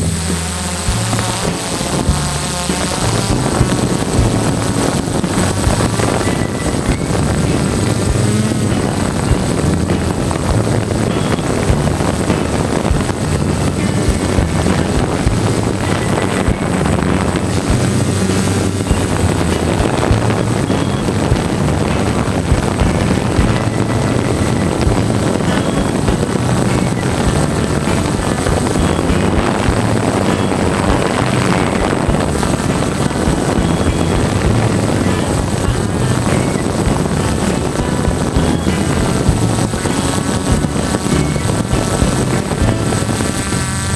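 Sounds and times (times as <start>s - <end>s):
drone propellers buzzing: 0.0s - 43.9s
thin high whine: 0.0s - 43.9s
wind on microphone: 0.0s - 43.9s.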